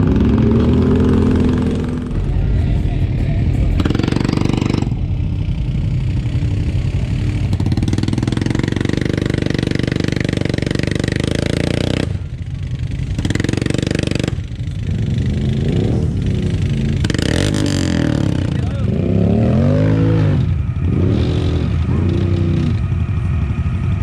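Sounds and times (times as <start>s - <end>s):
utility vehicle engine revving: 0.0s - 24.0s.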